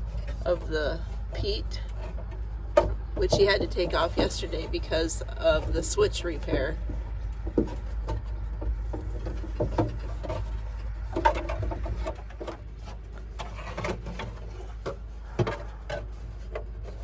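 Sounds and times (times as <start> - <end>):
panels clicking and knocking: 0.0 - 17.0
panels rubbing: 0.0 - 17.0.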